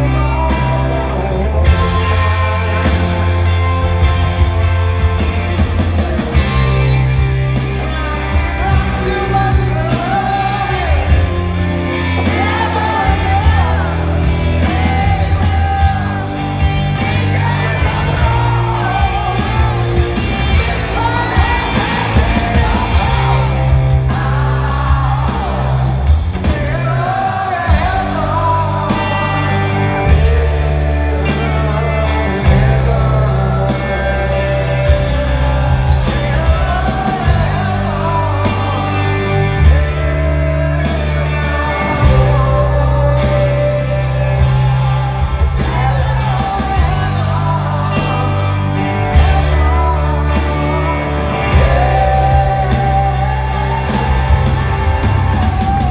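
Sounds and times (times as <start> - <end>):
live rock ballad: 0.0 - 55.9
singer's voice: 0.0 - 55.9.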